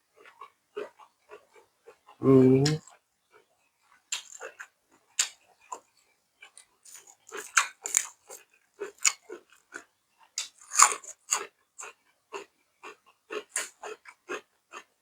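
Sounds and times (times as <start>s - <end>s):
person chewing food: 0.2s - 14.9s.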